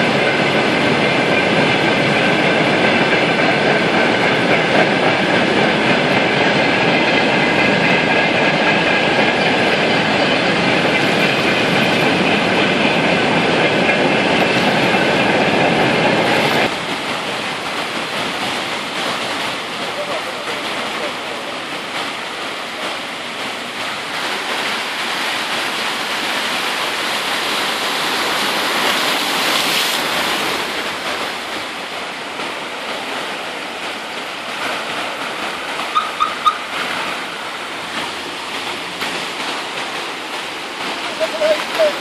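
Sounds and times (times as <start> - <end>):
floodwater rushing over asphalt: 0.0 - 42.0.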